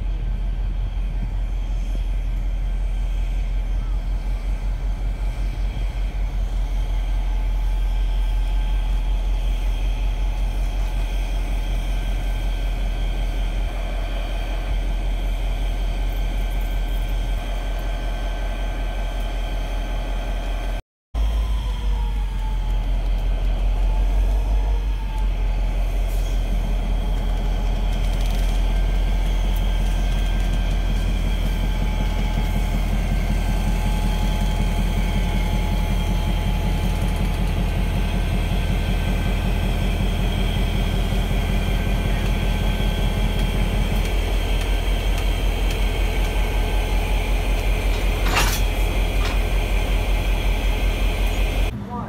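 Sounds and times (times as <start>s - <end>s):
diesel locomotive engine rumbling: 0.0s - 52.0s.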